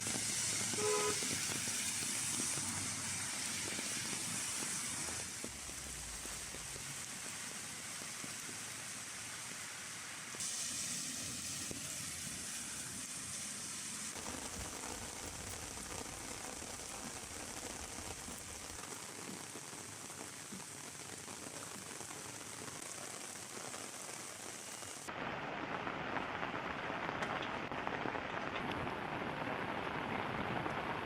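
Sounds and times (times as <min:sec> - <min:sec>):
heavy rain hiss: 0:00.0 - 0:31.0.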